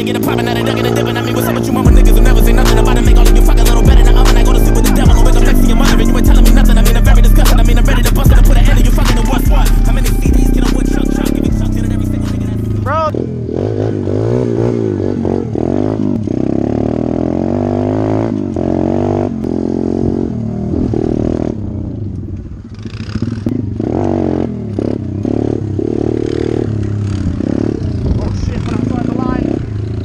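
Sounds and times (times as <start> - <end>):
motorbike engine accelerating: 0.0 - 30.0.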